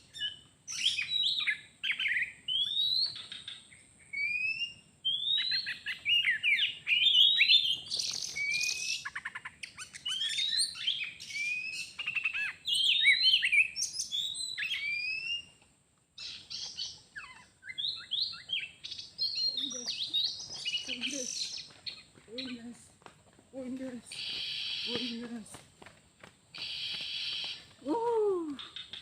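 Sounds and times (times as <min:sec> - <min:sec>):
bird singing whistles and chatter: 0:00.0 - 0:15.6, 0:16.2 - 0:22.6, 0:24.0 - 0:25.3.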